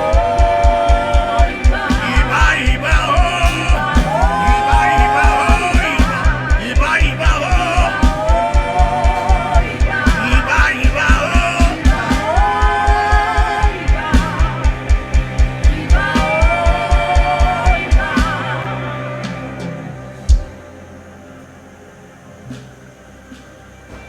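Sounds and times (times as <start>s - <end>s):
gospel worship music: 0.0s - 24.0s.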